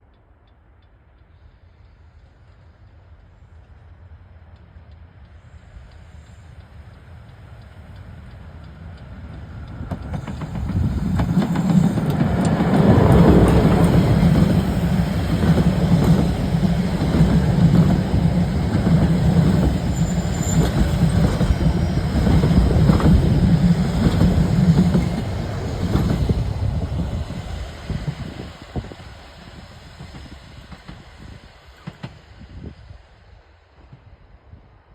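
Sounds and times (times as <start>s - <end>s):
steam train passing: 0.0s - 34.9s.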